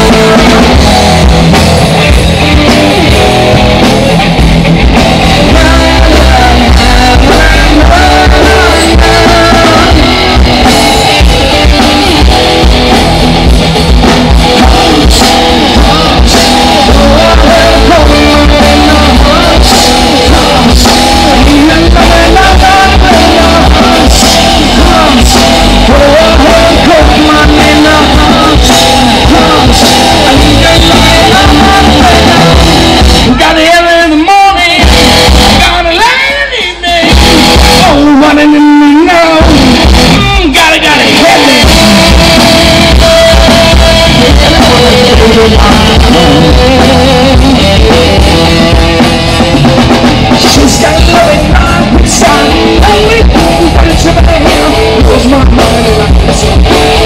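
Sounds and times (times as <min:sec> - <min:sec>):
bass guitar: 0:00.0 - 0:57.0
drum kit: 0:00.0 - 0:57.0
electric guitars: 0:00.0 - 0:57.0
person singing lead vocals: 0:00.0 - 0:57.0.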